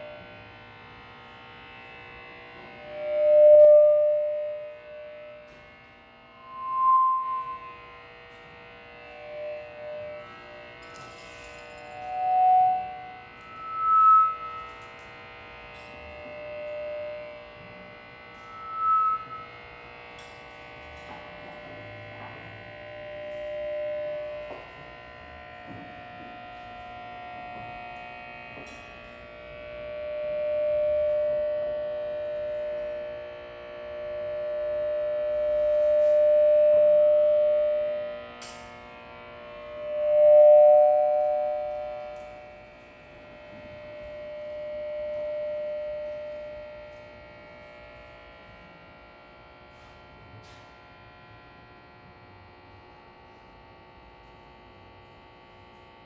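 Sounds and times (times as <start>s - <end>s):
steady hum: 0.0s - 48.5s
droning electronic tone: 0.0s - 56.0s.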